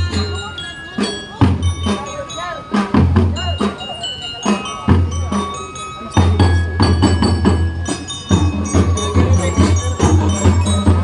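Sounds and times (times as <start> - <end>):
bell-lyre notes: 0.0 - 11.0
steady drumbeats: 0.0 - 11.0.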